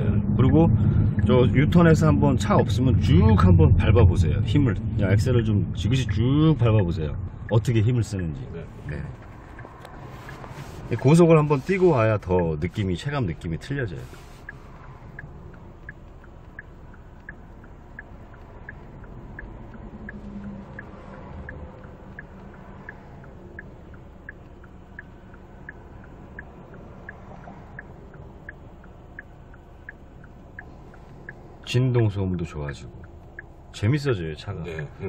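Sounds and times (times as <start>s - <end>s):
car turn signal ticking: 0.0s - 3.4s, 5.4s - 35.0s
car engine idling: 0.0s - 35.0s.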